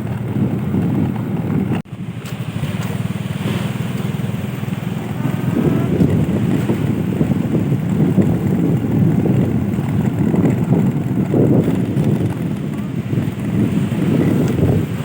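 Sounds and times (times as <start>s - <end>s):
engine droning: 0.0s - 15.0s
wind buffeting microphone: 0.0s - 15.0s.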